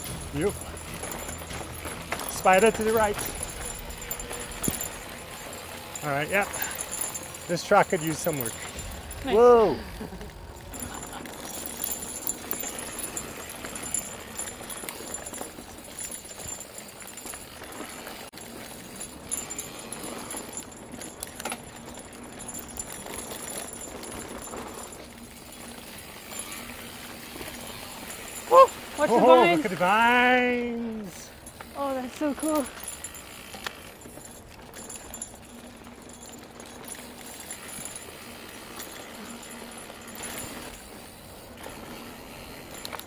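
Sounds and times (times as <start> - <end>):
bike chain jingling and rattling: 0.0 - 43.0
bike tyres on dirt trail: 0.0 - 43.0.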